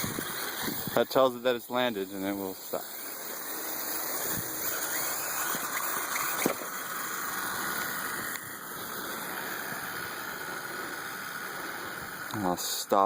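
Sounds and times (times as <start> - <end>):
drone rotors whirring: 0.0 - 13.0.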